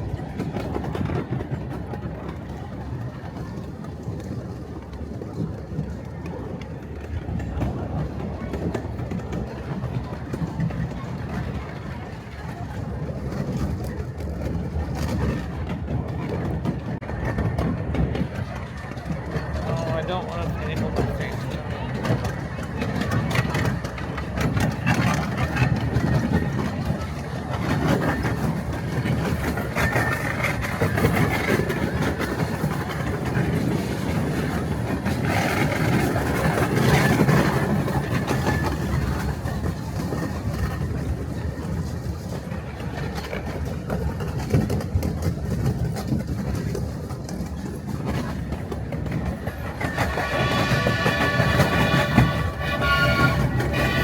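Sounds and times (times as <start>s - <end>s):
miniature train wheels rumbling: 0.0s - 54.0s.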